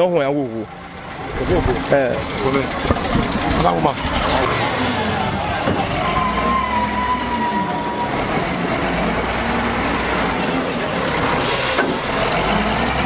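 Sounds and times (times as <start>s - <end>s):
market bustle: 0.0s - 13.0s
road traffic: 0.0s - 13.0s.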